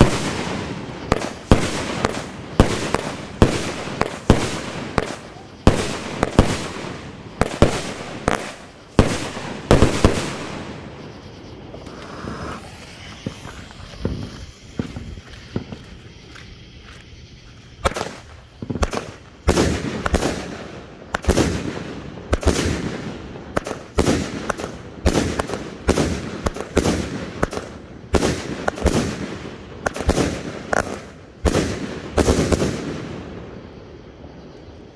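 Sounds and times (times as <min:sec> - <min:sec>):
firework bangs: 0:00.0 - 0:16.3, 0:17.8 - 0:33.6.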